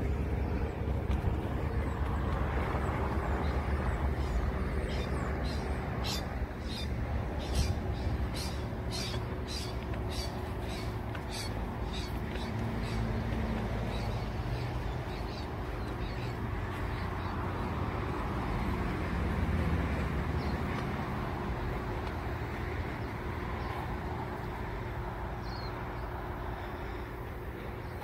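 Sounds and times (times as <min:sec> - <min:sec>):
rushing outdoor noise: 0:00.0 - 0:28.0.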